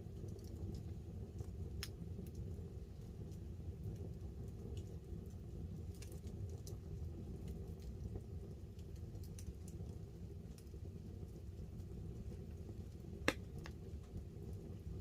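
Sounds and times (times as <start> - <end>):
campfire crackling and popping: 0.0 - 15.0
low fire rumble: 0.0 - 15.0
rain pattering on a tarp: 0.0 - 15.0.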